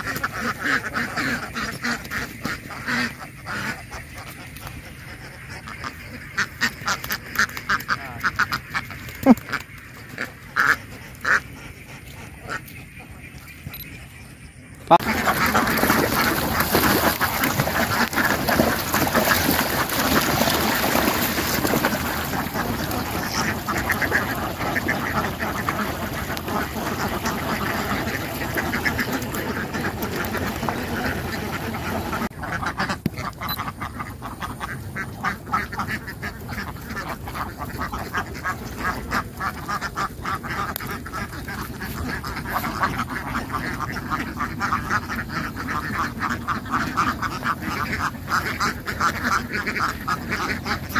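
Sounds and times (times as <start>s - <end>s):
ducks quacking: 0.0s - 50.9s.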